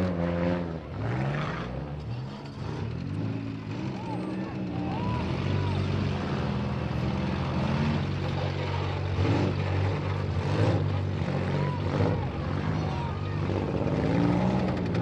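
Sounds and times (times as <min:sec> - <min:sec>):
car engines droning and revving: 0:00.0 - 0:15.0.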